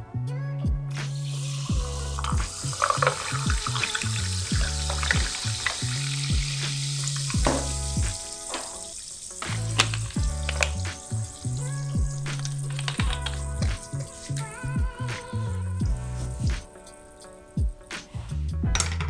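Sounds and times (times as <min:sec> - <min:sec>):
background music with steady beat: 0:00.0 - 0:19.0
drink fizzing and crackling: 0:01.0 - 0:18.2
carbonated water pouring over ice: 0:01.1 - 0:17.8.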